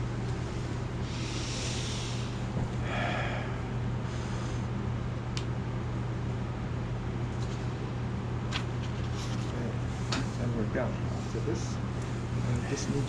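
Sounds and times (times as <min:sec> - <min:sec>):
fan humming and hissing: 0:00.0 - 0:13.0.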